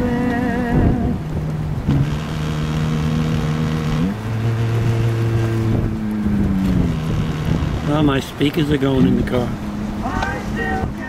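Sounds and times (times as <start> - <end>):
oldies music from car radio: 0.0 - 6.1, 6.8 - 11.0
surf: 0.0 - 11.0
wind: 0.0 - 11.0.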